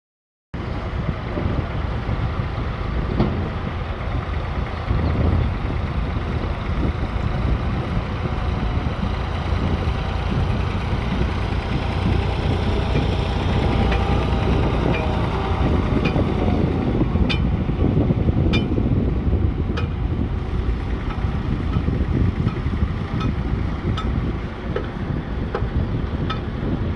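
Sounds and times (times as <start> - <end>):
tractor engine rumbling: 0.6 - 26.9.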